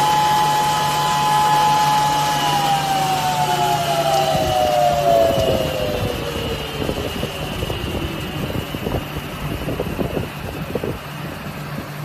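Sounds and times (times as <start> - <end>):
motor hum with whine: 0.0 - 12.0.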